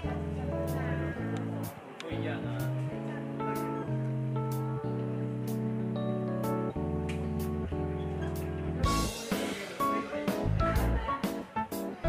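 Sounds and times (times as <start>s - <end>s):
sustained chords music: 0.0s - 11.1s.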